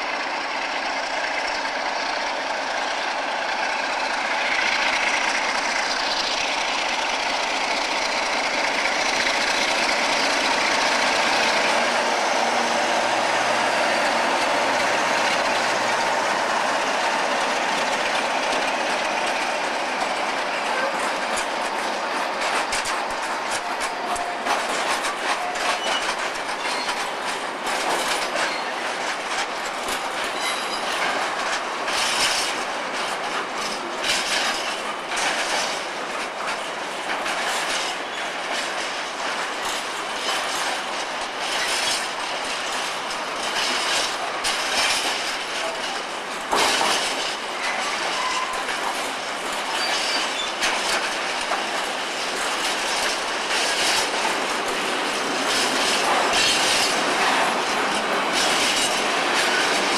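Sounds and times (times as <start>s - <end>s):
diesel locomotive engine: 0.0s - 59.9s
wagon wheels clattering over rail joints: 4.4s - 59.9s.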